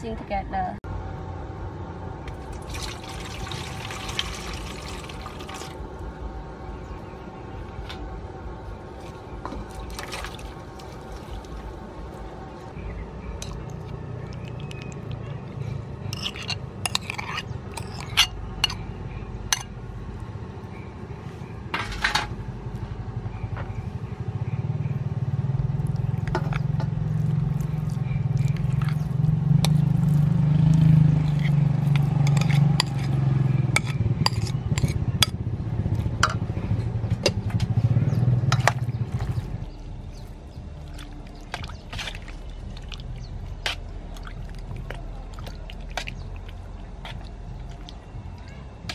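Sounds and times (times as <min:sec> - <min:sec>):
low engine drone: 0:00.0 - 0:48.9.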